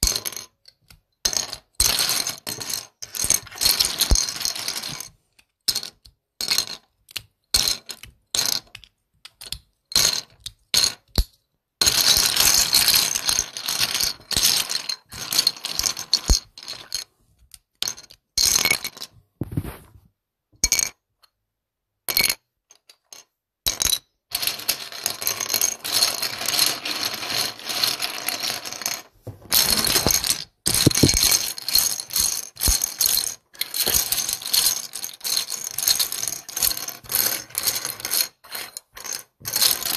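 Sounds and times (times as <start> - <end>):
plastic bricks clicking and rattling: 0.0 - 19.8, 23.7 - 39.9.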